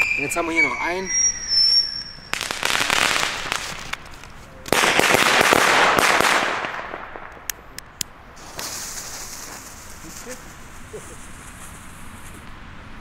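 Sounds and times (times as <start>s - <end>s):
smoke firework hissing: 0.0s - 6.4s, 8.4s - 12.4s.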